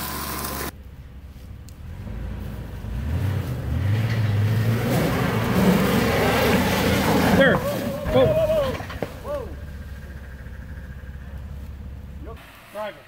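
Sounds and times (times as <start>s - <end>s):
car engine revving: 1.7s - 13.0s.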